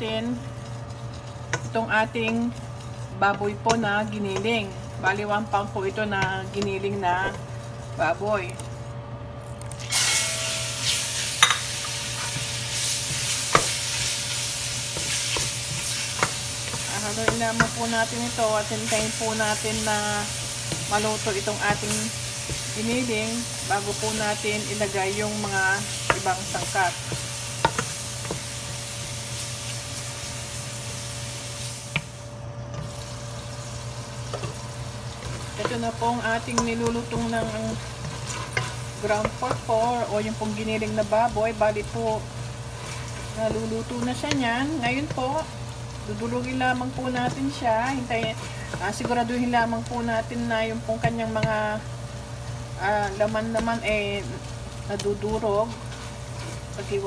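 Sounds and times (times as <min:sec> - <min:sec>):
wooden spatula stirring: 0:00.0 - 0:09.0, 0:11.4 - 0:29.7, 0:33.6 - 0:51.8, 0:52.4 - 0:57.0
meat sizzling in hot oil: 0:00.0 - 0:57.0.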